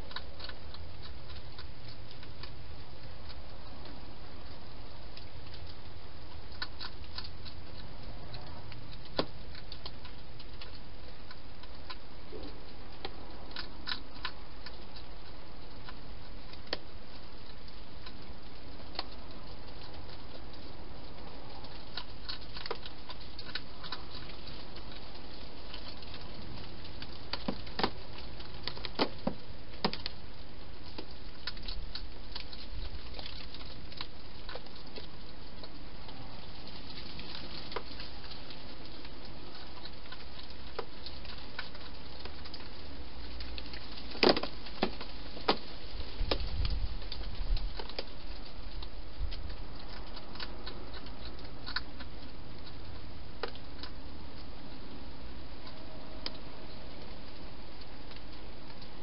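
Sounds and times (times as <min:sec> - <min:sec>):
hedgehog chewing clicks: 0:00.0 - 0:59.0.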